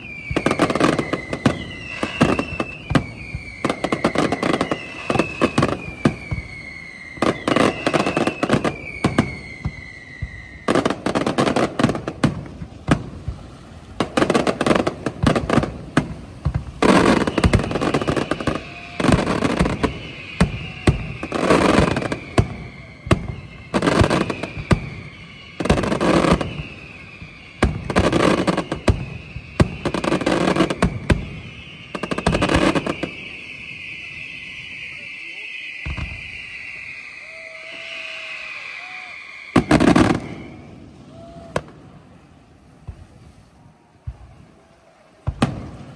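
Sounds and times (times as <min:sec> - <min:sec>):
firework bangs and crackling: 0:00.0 - 0:45.9
firework whistles falling in pitch: 0:00.0 - 0:45.9.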